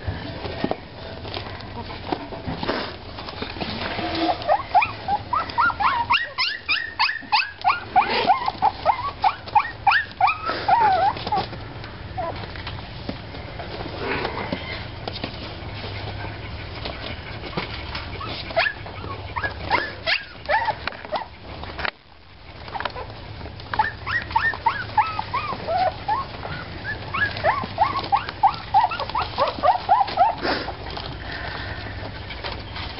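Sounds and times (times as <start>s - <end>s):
puppies yipping and squealing: 3.7s - 12.6s, 14.5s - 21.8s, 22.4s - 32.9s.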